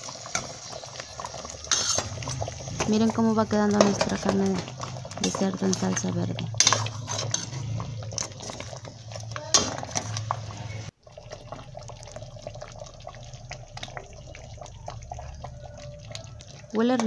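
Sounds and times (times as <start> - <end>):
stew bubbling with pops: 0.0 - 17.0.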